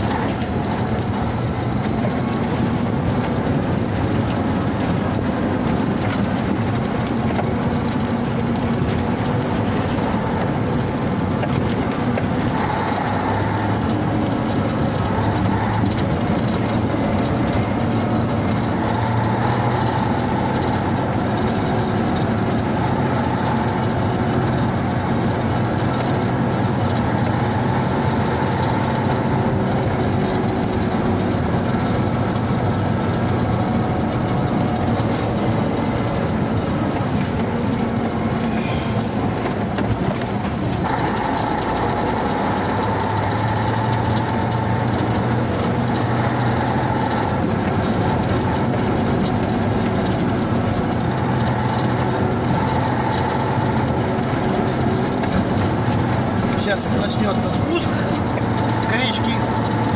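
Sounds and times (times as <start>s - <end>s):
tyre and road noise: 0.0s - 59.9s
vehicle engine hum: 0.0s - 59.9s.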